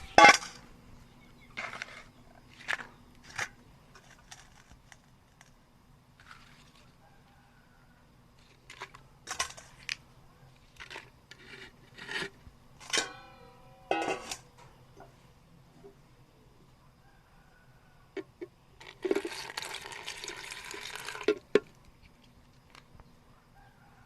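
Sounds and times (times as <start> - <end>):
faint steady low hum: 0.0 - 24.0.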